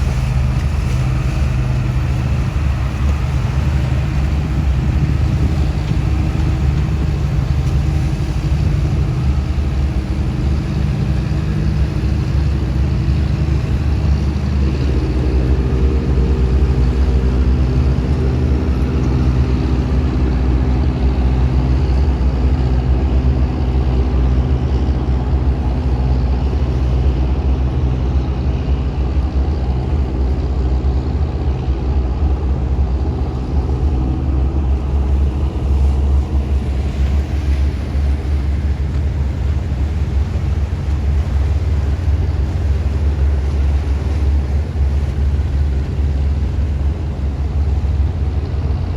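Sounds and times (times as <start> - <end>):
boat engine low drone: 0.0 - 48.9
higher engine tone: 0.0 - 48.9.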